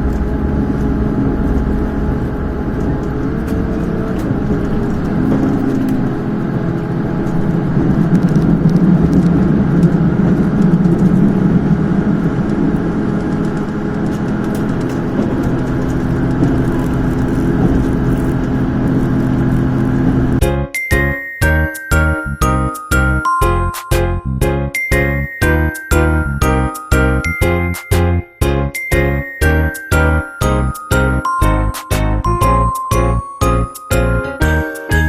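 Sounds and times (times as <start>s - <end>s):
diesel railcar engine: 0.0s - 35.0s
train running rumble: 0.0s - 35.0s.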